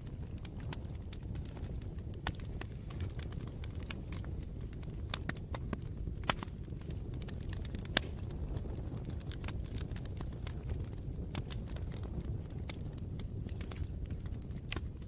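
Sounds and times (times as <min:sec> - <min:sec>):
campfire crackling and popping: 0:00.0 - 0:15.0
fire low rush: 0:00.0 - 0:15.0.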